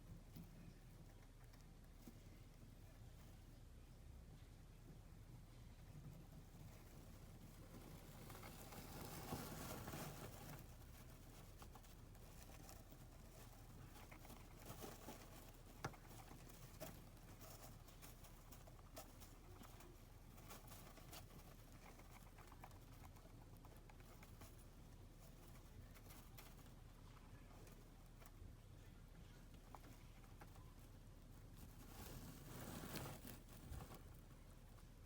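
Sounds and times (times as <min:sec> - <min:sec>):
hamster rustling: 0:00.0 - 0:35.0.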